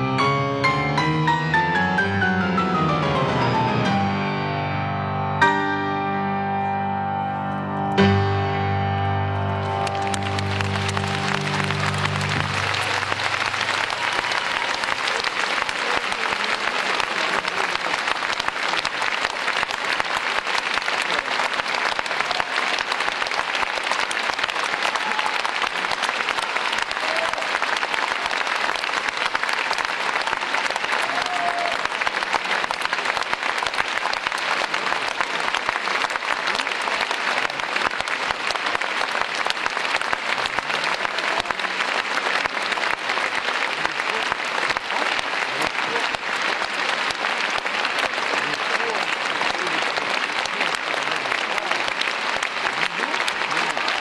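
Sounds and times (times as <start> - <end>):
audience applauding: 0.0 - 4.0, 9.2 - 54.0.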